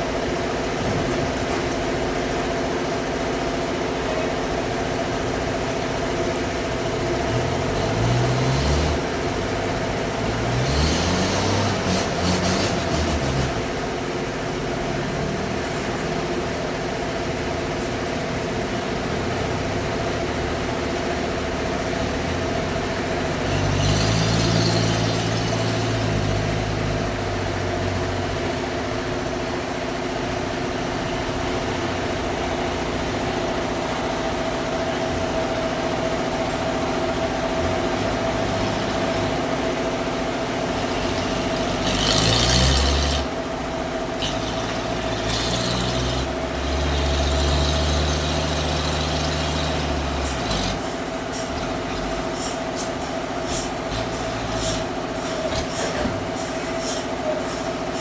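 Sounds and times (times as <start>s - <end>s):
sawmill machinery humming: 0.0s - 58.0s
engine revving: 5.2s - 29.4s, 31.1s - 58.0s.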